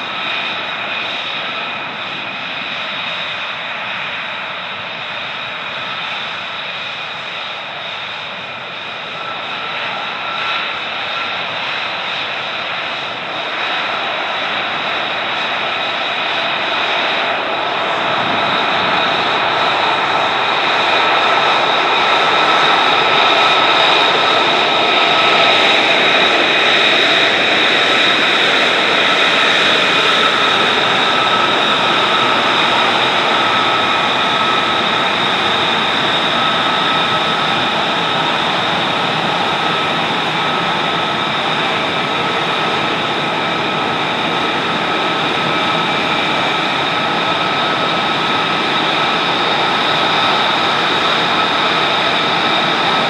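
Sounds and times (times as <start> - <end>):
high engine whine: 0.0 - 53.0
jet engine running: 0.0 - 53.0.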